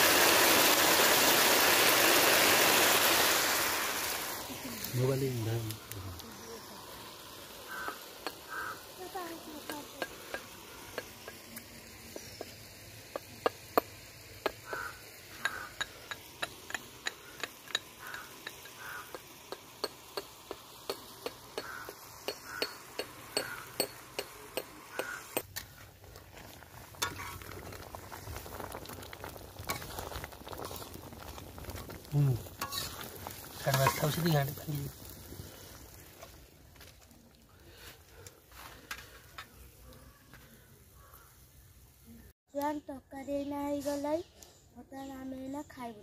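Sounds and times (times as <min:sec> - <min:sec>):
curry simmering and sizzling: 0:00.0 - 0:42.4.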